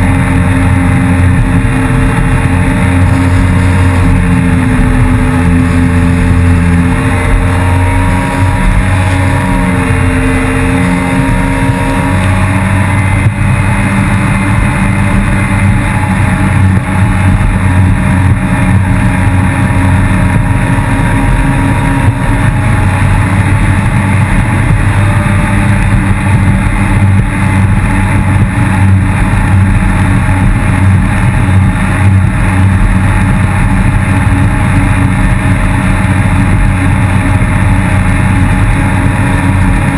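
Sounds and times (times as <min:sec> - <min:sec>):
jet ski engine running hard: 0:00.0 - 0:39.9.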